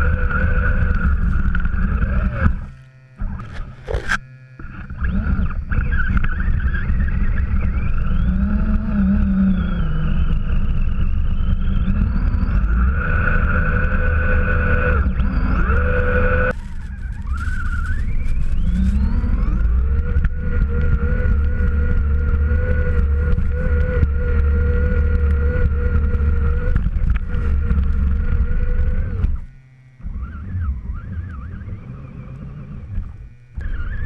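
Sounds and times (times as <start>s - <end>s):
heavy low rumble: 0.0s - 34.0s
toy truck motor whining: 0.0s - 34.0s.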